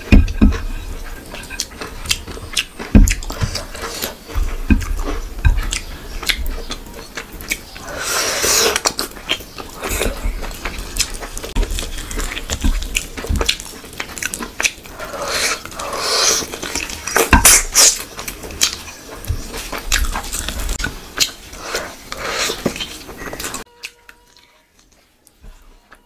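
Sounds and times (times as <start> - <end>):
chewing and lip smacking: 0.0 - 25.4.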